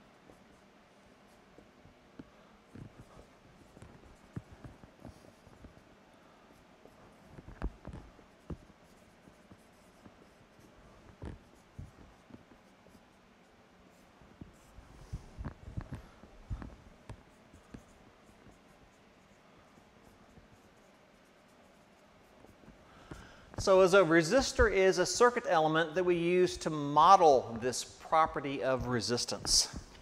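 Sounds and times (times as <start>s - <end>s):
marker writing on a whiteboard: 0.0s - 25.0s.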